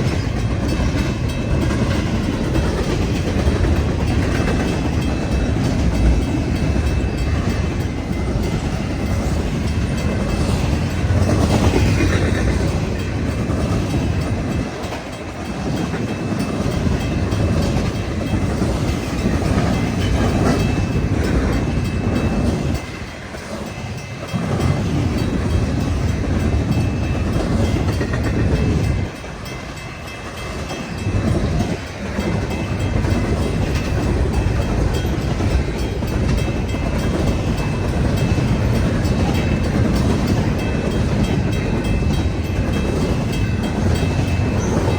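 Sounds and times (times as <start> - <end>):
freight train rumbling past: 0.0 - 44.9
steel wheels clattering on rails: 0.0 - 44.9.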